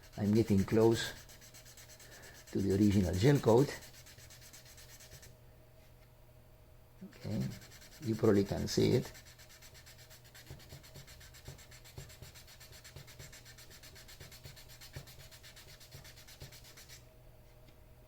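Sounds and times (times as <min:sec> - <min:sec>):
sandpaper rubbing by hand: 0:00.0 - 0:05.3, 0:07.1 - 0:17.0.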